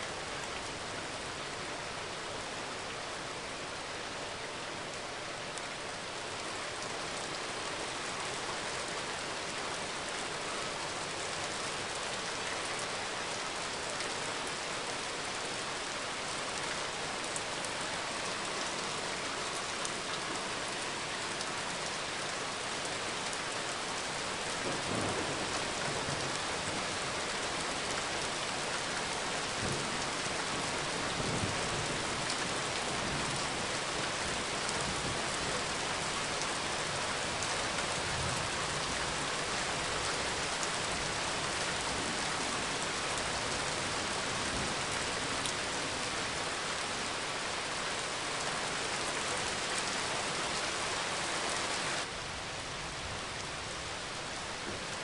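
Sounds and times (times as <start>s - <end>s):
rain on pavement: 0.0s - 55.0s.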